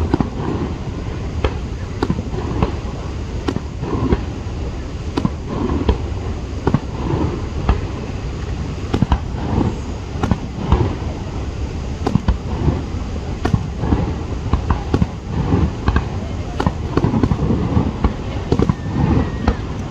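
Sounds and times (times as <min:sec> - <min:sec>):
fireworks bangs: 0:00.0 - 0:19.9.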